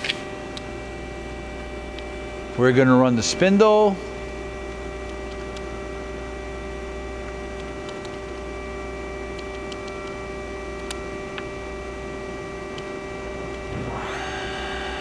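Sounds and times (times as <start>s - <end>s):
low machine hum: 0.0s - 15.0s
machine spindle whine: 0.0s - 15.0s.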